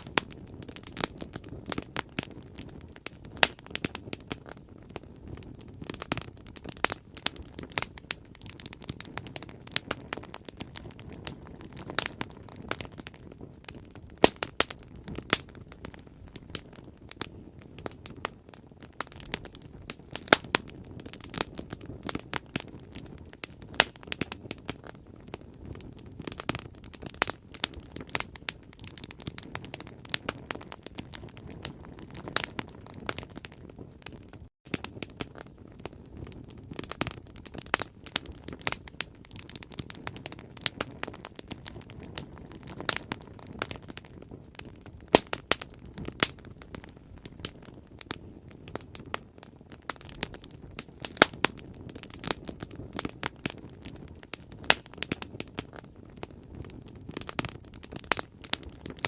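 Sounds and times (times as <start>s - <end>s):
burning wood crackling: 0.0s - 59.0s
rush of flame: 0.0s - 59.0s.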